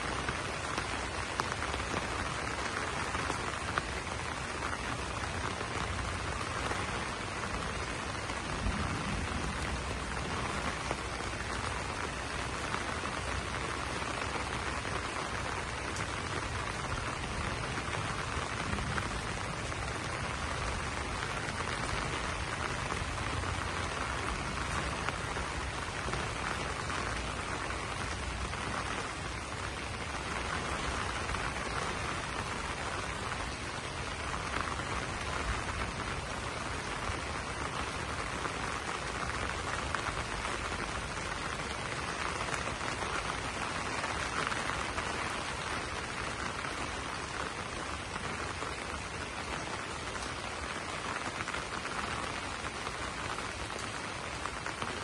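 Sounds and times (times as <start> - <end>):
rain on leaves: 0.0 - 55.0.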